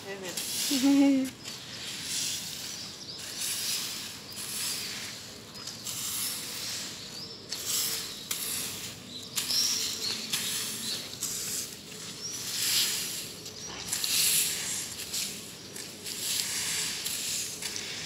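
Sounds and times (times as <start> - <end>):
broom sweeping on paving stones: 0.0 - 18.0.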